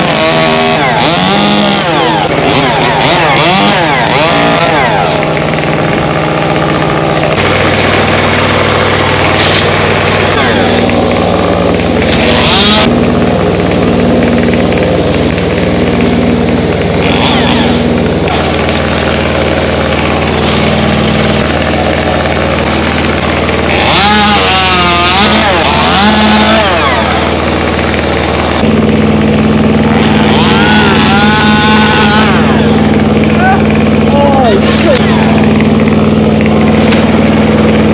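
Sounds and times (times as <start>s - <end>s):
engine running loudly: 0.0s - 37.9s.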